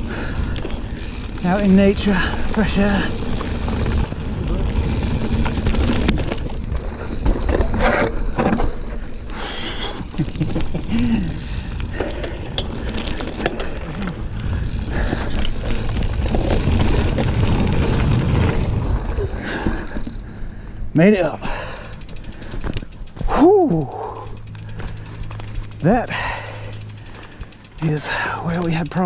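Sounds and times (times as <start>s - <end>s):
bike chain rattling: 0.0s - 29.0s
bike tyres rolling on dirt: 0.0s - 29.0s.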